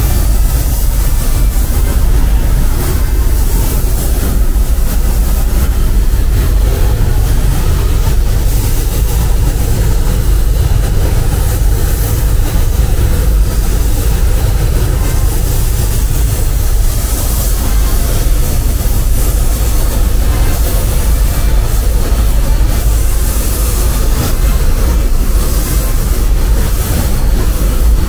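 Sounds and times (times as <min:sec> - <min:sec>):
even hiss: 0:00.0 - 0:28.0
low mechanical rumble: 0:00.0 - 0:28.0.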